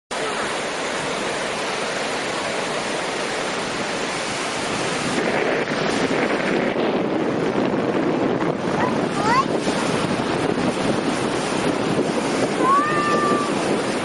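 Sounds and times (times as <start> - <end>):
sea surf washing onto beach: 0.1 - 14.0
wind on microphone: 0.2 - 14.0.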